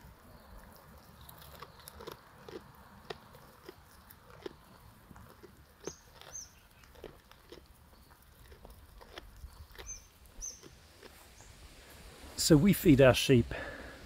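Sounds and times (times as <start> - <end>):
sheep chewing feed: 0.0 - 11.3.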